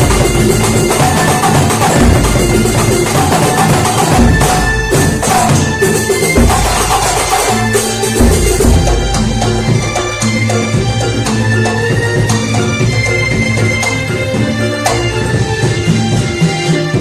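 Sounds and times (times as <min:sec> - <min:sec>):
frame drums and hand percussion: 0:00.0 - 0:17.0.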